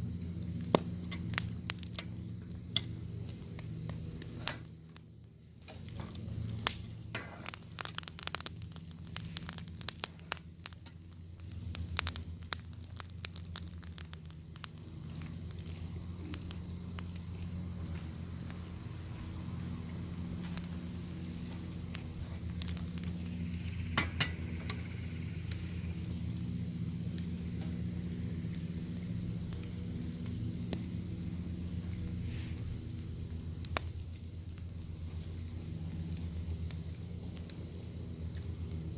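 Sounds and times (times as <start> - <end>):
bacon sizzling in a pan: 0.0 - 38.9
sharp pops and crackles: 0.0 - 38.9.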